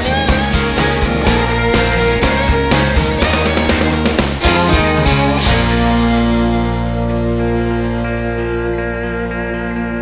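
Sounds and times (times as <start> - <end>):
held music chord ringing: 0.0 - 10.0.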